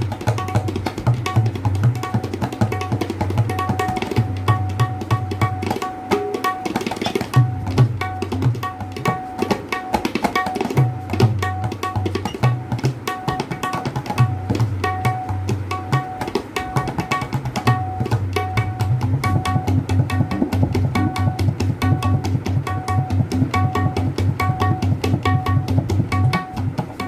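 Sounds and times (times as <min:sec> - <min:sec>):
tabla bass drum booming: 0:00.0 - 0:27.0
tabla treble drum ringing: 0:00.0 - 0:27.0.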